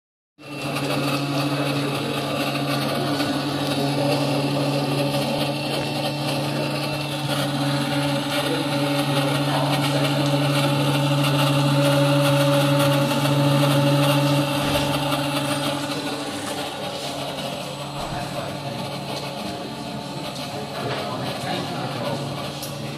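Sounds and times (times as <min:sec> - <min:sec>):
milling machine hum: 0:00.4 - 0:22.9.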